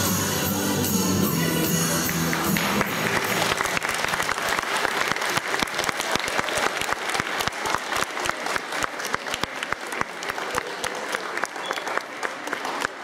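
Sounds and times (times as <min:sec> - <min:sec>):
children applauding: 0:01.9 - 0:13.0.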